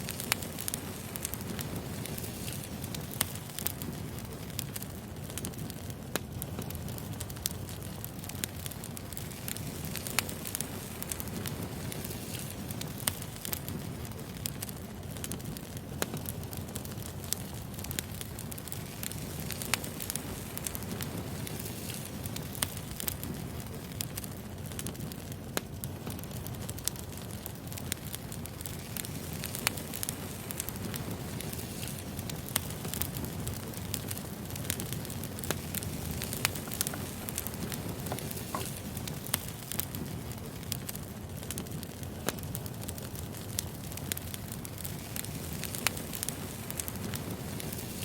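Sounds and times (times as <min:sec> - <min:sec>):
fire pops and snaps: 0:00.0 - 0:48.0
wood fire crackling: 0:00.0 - 0:48.0.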